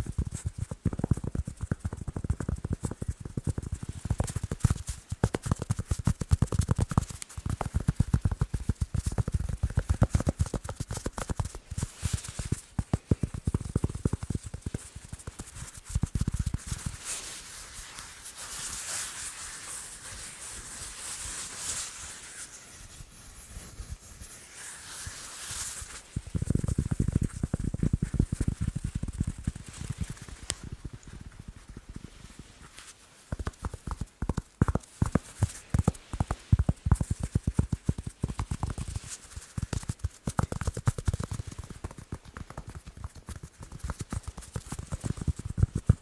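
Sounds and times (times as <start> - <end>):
fingertip tapping on balls: 0.0 - 17.1, 26.2 - 46.0
soft hissy scratching: 0.0 - 46.0.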